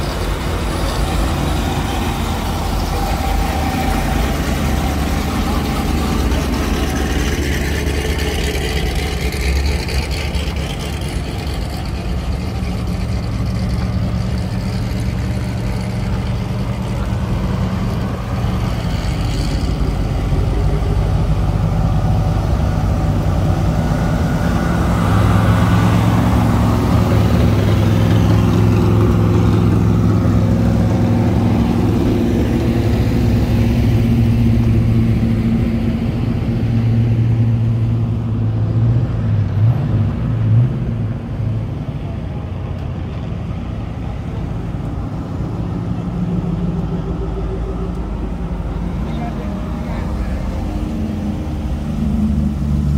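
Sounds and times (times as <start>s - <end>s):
cars passing slowly: 0.0s - 52.9s.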